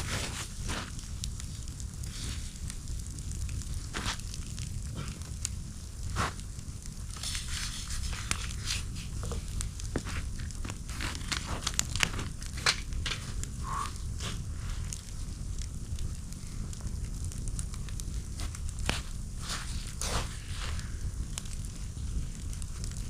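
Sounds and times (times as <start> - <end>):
campfire crackling: 0.0 - 23.0
crinkling and rustling: 0.0 - 23.0.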